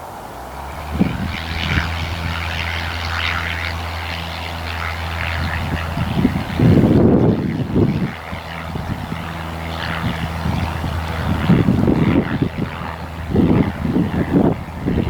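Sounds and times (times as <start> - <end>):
propeller plane engine humming: 0.0 - 15.0
wind buffeting microphone: 0.0 - 15.0.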